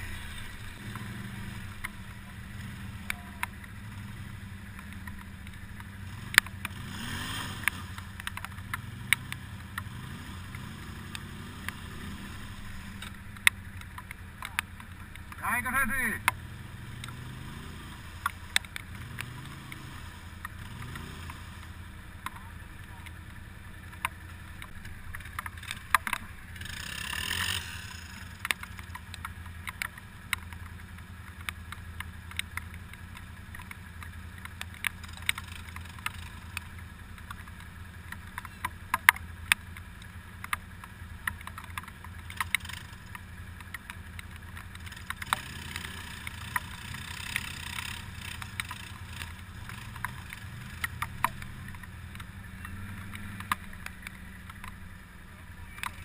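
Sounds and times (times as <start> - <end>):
quad engine idling and revving: 0.0 - 56.0
sharp clicks: 4.7 - 6.8, 7.6 - 16.4, 18.2 - 54.9, 55.7 - 56.0.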